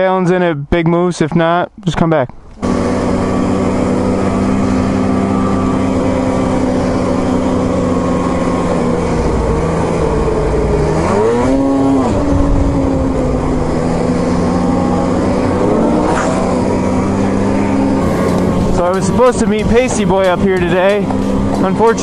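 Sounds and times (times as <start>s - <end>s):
snowmobile engine running: 2.6s - 22.0s.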